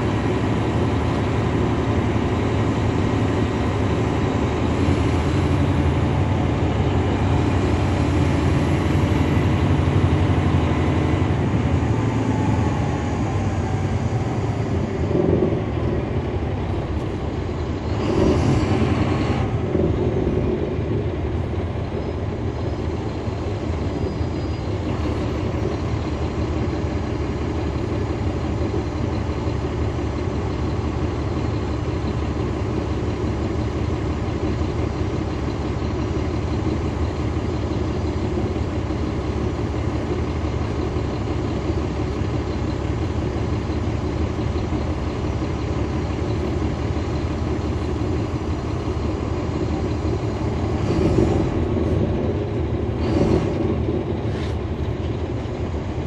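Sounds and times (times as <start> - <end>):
bus diesel engine rumble: 0.0 - 56.0
road noise: 0.0 - 56.0.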